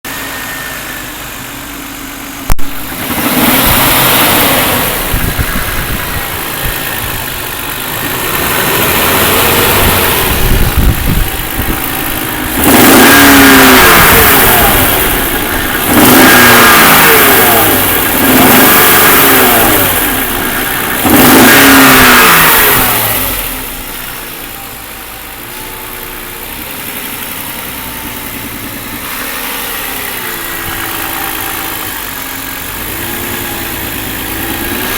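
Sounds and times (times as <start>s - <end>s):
car engine idling and revving: 0.0s - 34.9s
engine knock: 2.6s - 34.9s.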